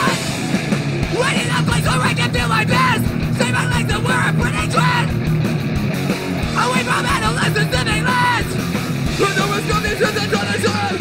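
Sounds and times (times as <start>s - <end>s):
punk rock band playing live: 0.0s - 11.0s
yelled vocals: 0.0s - 11.0s.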